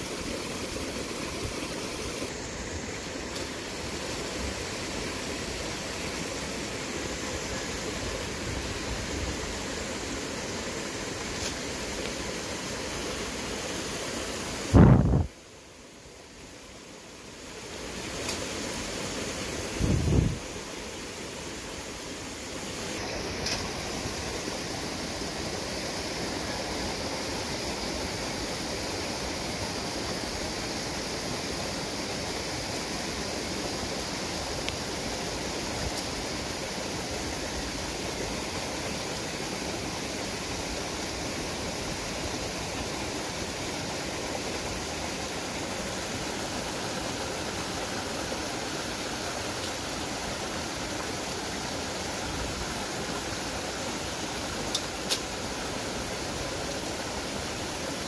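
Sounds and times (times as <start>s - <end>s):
small waterfall rushing: 0.0s - 58.0s.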